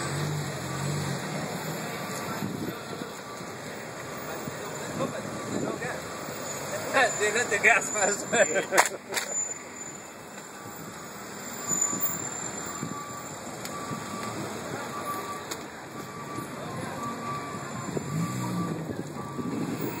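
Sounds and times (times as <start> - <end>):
car engines running: 0.0 - 20.0.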